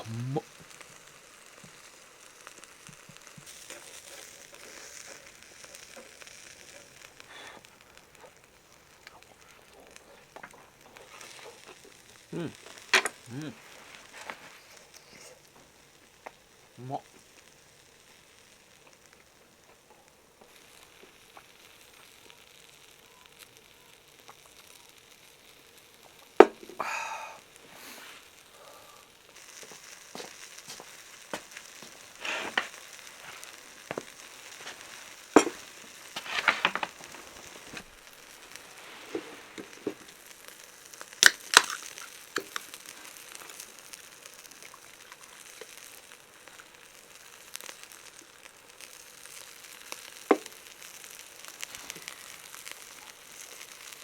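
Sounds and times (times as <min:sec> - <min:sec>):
meat sizzling on a grill: 0:00.0 - 0:54.0
small crackling pops: 0:00.0 - 0:54.0.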